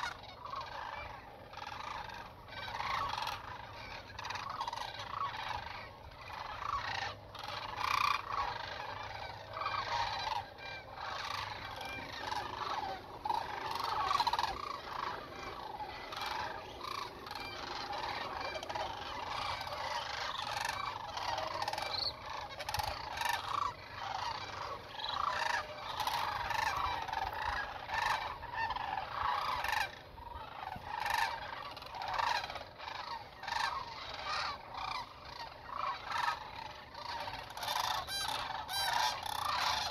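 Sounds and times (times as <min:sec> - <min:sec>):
cranes calling: 0:00.0 - 0:39.9.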